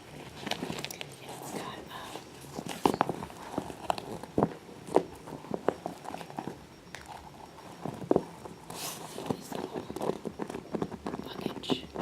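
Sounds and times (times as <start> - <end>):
scratchy rustle: 0.1 - 11.8.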